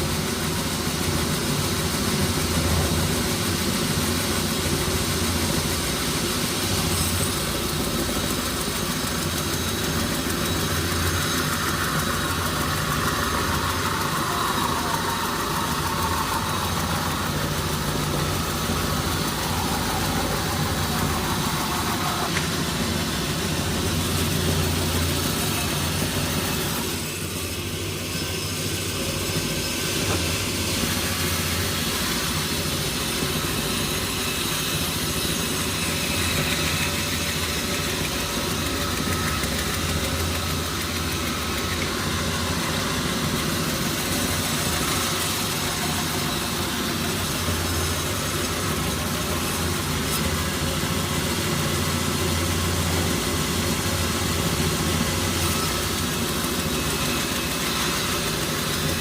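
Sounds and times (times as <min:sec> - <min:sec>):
high-pitched machine whine: 0:00.0 - 0:59.0
sawmill machinery engine hum: 0:00.0 - 0:59.0.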